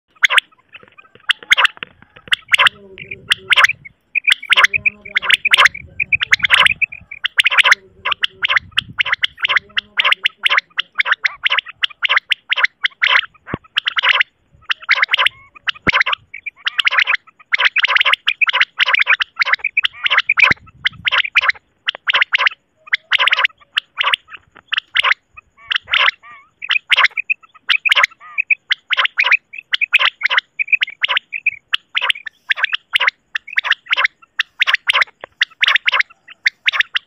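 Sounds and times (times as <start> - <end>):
quail calling: 0.0 - 37.0.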